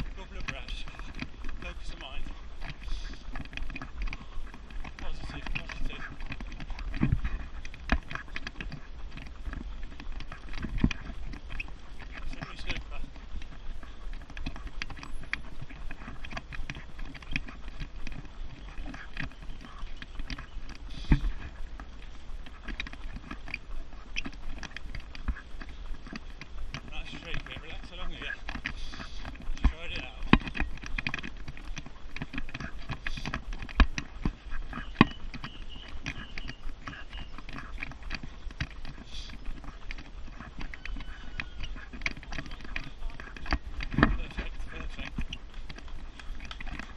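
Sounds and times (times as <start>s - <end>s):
running footsteps on pavement: 0.0s - 46.9s
stroller wheels rolling: 0.0s - 46.9s
wind: 0.0s - 46.9s.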